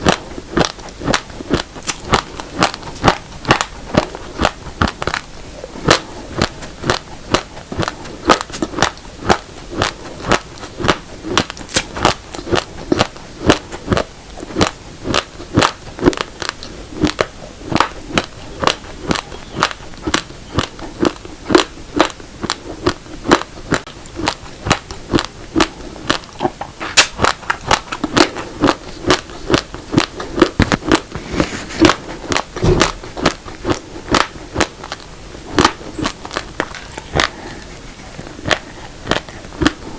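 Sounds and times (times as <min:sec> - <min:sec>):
raw rice grains crunching: 0:00.0 - 0:39.9.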